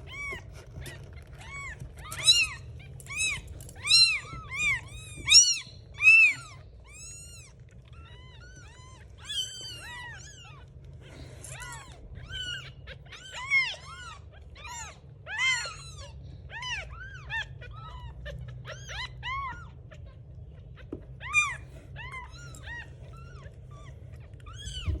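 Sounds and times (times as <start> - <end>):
kittens mewing: 0.0 - 25.0
low steady hum: 0.0 - 25.0.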